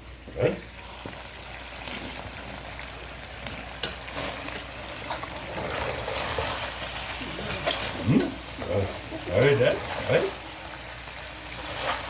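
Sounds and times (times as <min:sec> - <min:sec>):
pork ribs sizzling in a pan: 0:00.1 - 0:12.0.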